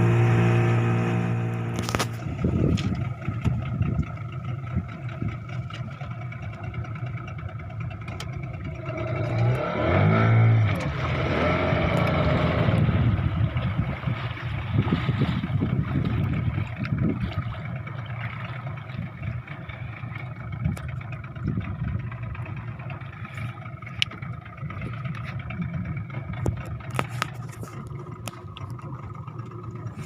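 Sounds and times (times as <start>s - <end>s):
boat motor running: 0.0s - 30.0s
water noise: 0.0s - 30.0s
wind: 0.0s - 30.0s.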